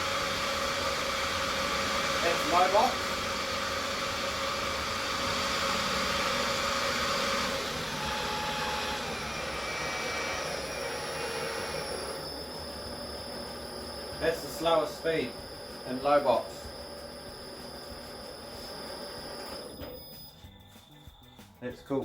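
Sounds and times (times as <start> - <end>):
metal lathe motor whirring: 0.0 - 20.3.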